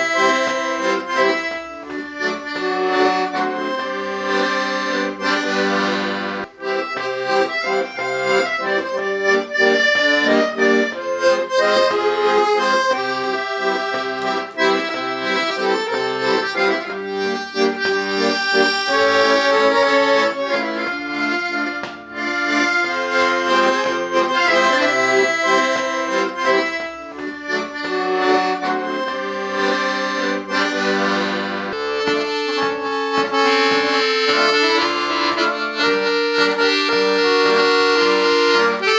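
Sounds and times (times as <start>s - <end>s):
accordion playing a tune: 0.0s - 38.9s.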